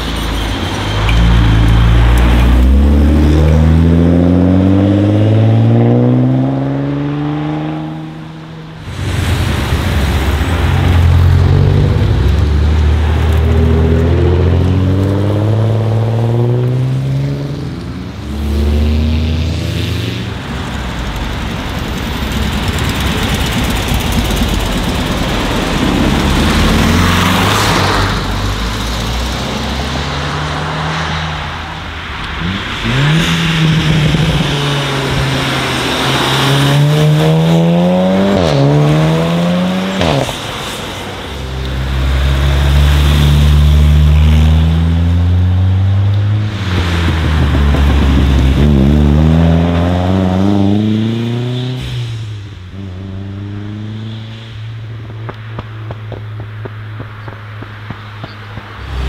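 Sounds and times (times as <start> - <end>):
cars accelerating past: 0.8 - 59.0.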